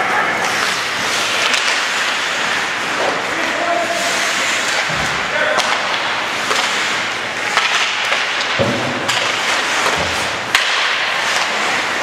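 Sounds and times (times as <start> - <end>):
hockey sticks clacking on puck: 0.4 - 12.0.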